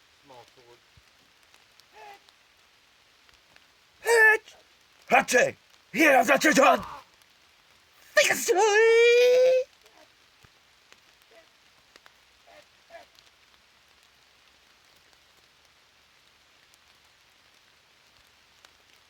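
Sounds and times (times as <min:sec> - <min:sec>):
faint rain dripping: 0:00.0 - 0:19.0.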